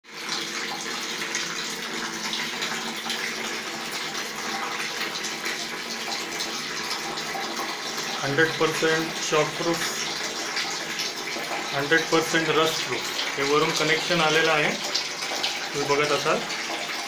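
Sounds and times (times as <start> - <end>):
water running from spout: 0.0 - 17.0.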